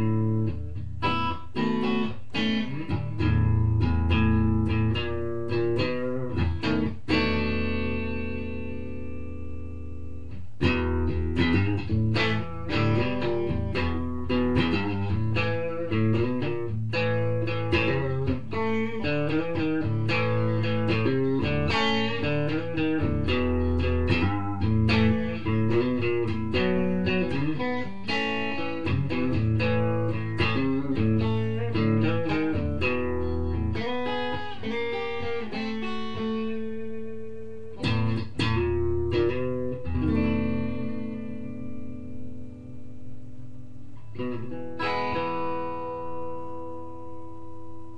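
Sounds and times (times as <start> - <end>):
guitar plucked notes: 0.0 - 47.9.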